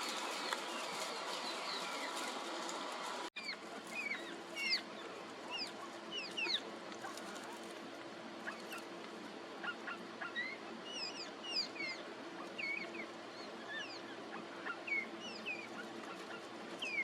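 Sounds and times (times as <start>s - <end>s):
birds chirping: 0.0s - 7.6s, 9.5s - 17.0s.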